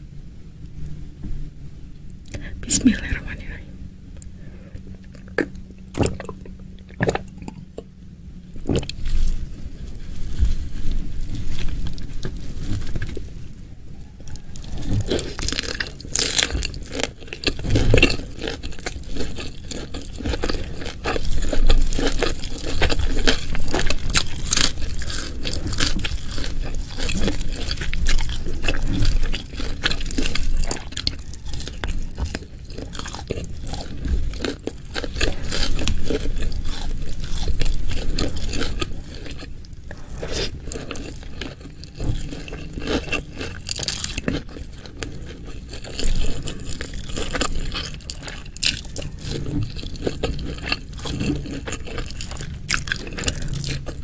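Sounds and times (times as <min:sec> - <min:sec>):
crunchy bites and chewing: 0:04.2 - 0:07.9, 0:08.6 - 0:54.0.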